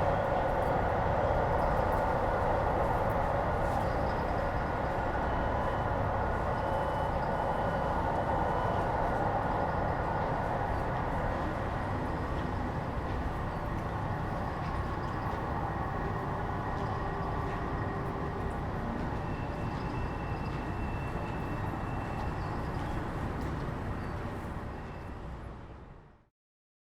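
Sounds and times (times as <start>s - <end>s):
train rumbling on rails: 0.0s - 26.3s.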